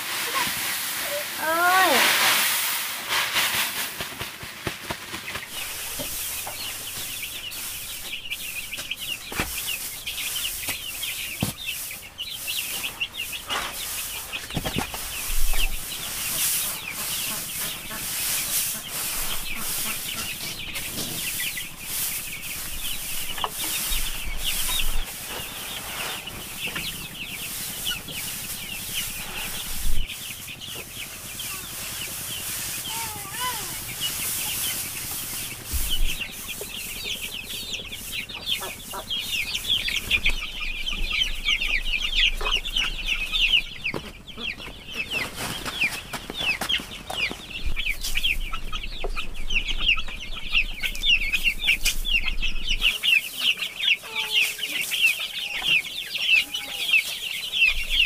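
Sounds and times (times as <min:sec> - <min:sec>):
chickens calling: 0:00.0 - 0:58.0.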